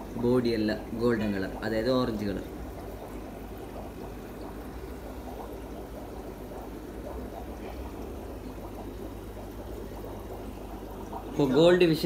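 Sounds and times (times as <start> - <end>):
aquarium water bubbling: 0.0 - 12.0
low steady hum: 0.0 - 12.0.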